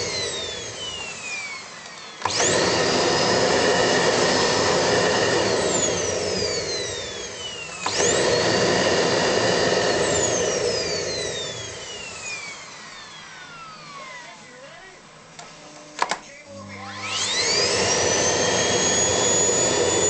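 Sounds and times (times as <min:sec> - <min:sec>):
vacuum cleaner motor whine: 0:00.0 - 0:20.0.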